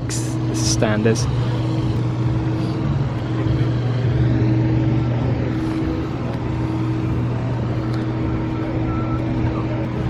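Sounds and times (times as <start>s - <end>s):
engine droning steadily: 0.0s - 10.0s.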